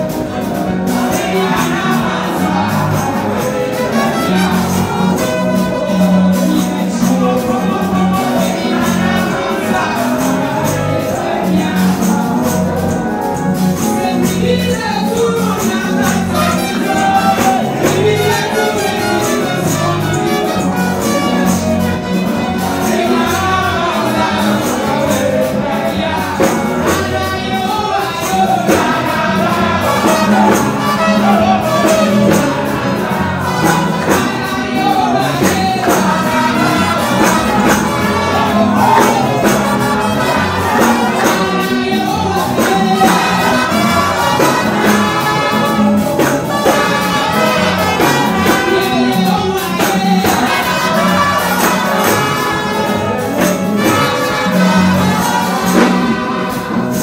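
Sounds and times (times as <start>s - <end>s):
electric bass guitar: 0.0s - 57.0s
keyboard: 0.0s - 57.0s
women singing gospel: 0.0s - 57.0s.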